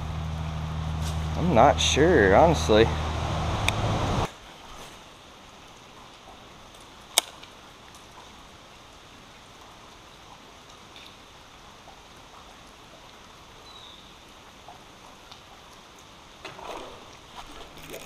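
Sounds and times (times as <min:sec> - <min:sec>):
rain falling on creek water: 0:00.0 - 0:18.0.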